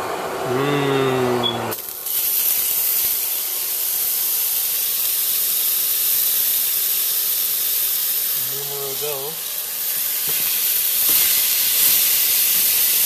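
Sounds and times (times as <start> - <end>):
fish sizzling in a frying pan: 1.8 - 13.0.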